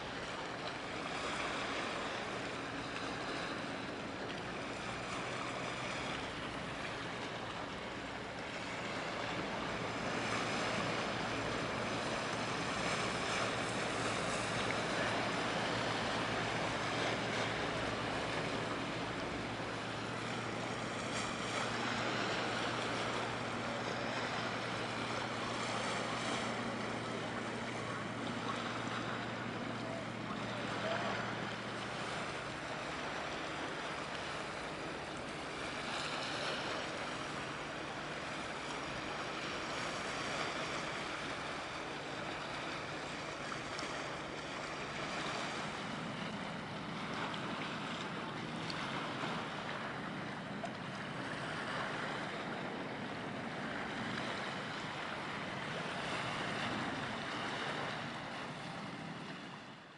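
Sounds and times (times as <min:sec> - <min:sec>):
water noise: 0:00.0 - 0:59.9
wind: 0:00.0 - 0:59.9.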